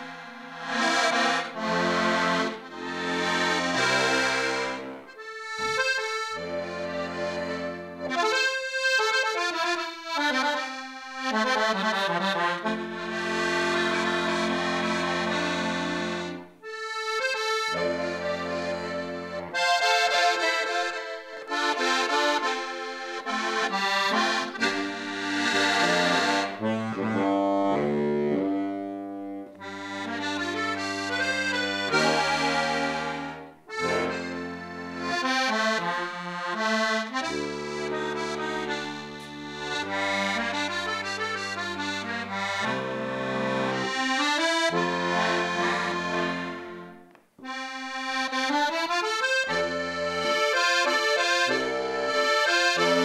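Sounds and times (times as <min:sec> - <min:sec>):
button accordion folk tune: 0:00.0 - 0:53.0.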